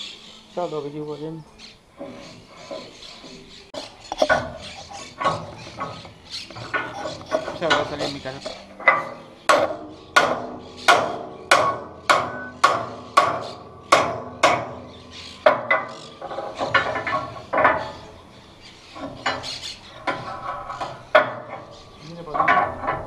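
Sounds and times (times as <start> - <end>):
knocking and clatter: 2.0 - 18.2, 18.8 - 23.0.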